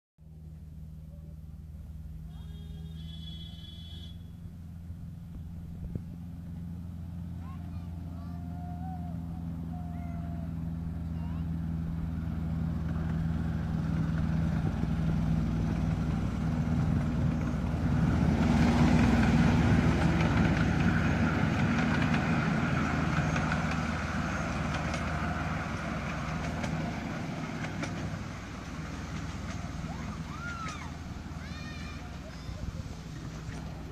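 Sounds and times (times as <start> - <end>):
wheels rolling on rail: 1.8 - 33.9.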